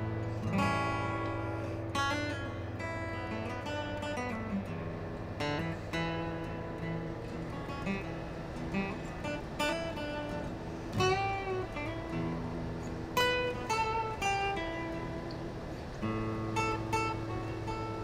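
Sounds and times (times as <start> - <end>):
solo guitar plucked notes: 0.0 - 18.0.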